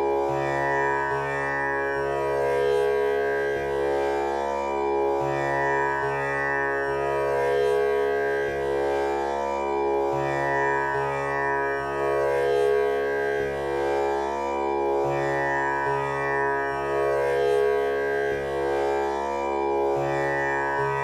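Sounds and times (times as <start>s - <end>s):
tanpura drone: 0.0s - 21.0s.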